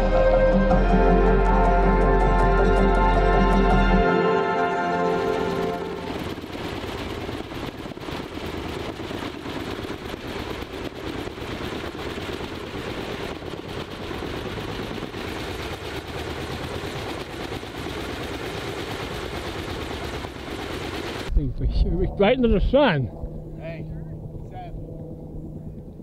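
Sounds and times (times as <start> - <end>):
helicopter rotor blades chopping: 2.7 - 26.0.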